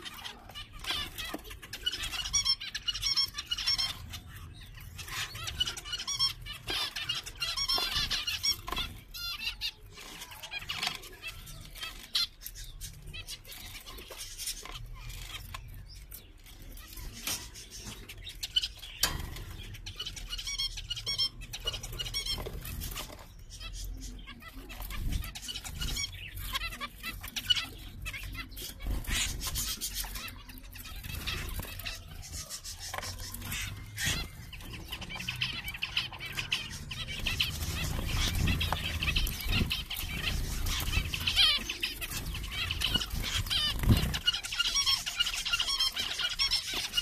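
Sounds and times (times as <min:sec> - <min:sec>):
finches calling and chirping: 0:00.0 - 0:47.0.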